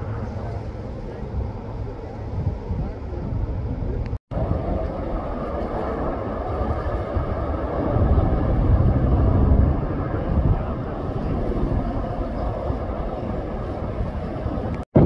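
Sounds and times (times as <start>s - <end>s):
helicopter rotor and engine rumble: 0.0s - 14.8s.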